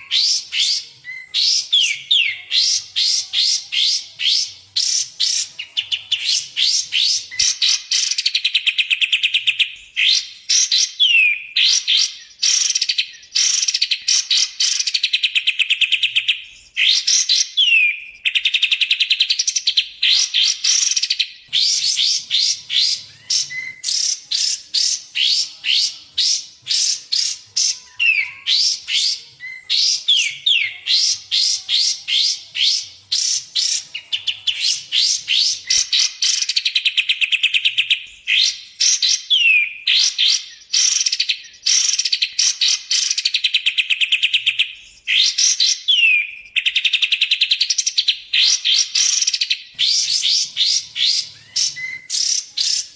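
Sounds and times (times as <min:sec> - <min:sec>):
songbird chirps and trills: 0:00.0 - 0:52.9.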